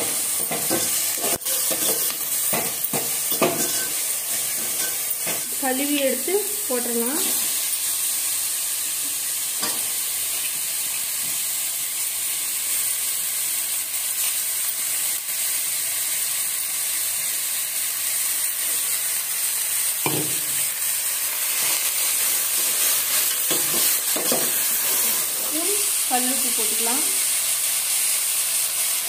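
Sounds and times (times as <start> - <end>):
meat sizzling in hot oil: 0.0 - 29.0.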